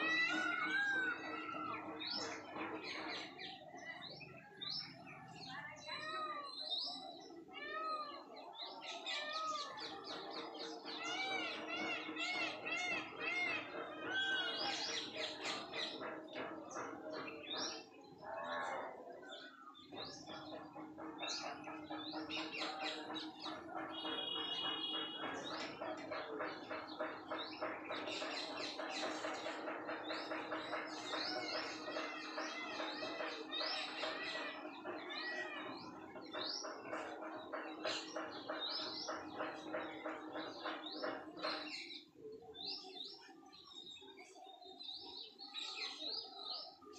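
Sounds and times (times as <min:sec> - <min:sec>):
chorus of small birds chirping: 0:00.0 - 0:46.9.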